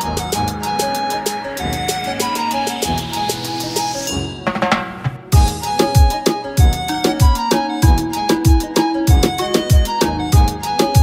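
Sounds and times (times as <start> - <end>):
plucked instrumental notes: 0.0 - 11.0
steady drum beat: 0.0 - 11.0.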